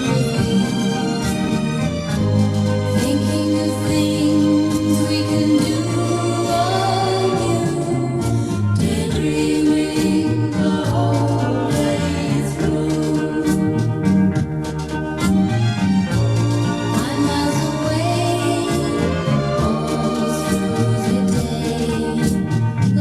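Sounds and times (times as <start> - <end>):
organ bass and drums: 0.0 - 23.0
vocal group singing: 0.0 - 23.0.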